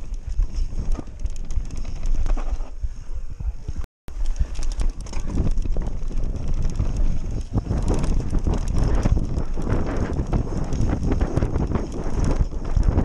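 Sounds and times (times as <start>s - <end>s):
bike clattering over bumps: 0.0s - 2.8s, 4.1s - 13.0s
wind buffeting microphone: 0.0s - 13.0s.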